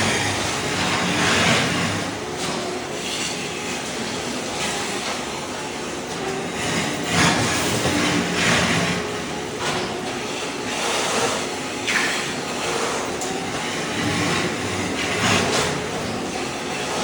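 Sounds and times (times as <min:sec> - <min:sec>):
floor scraper grinding mortar: 0:00.0 - 0:05.1, 0:06.0 - 0:17.0.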